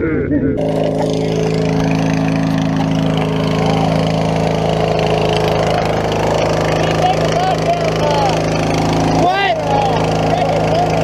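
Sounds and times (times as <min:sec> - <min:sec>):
riding lawn mower engine: 0:00.6 - 0:11.0.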